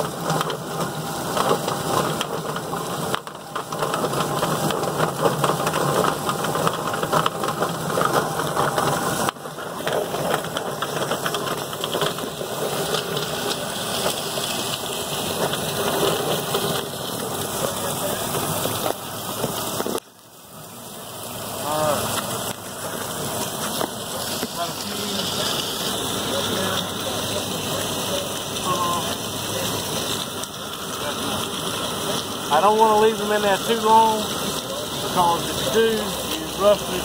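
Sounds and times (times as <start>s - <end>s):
chicken plucker motor clattering: 0.0s - 20.1s, 21.6s - 37.0s.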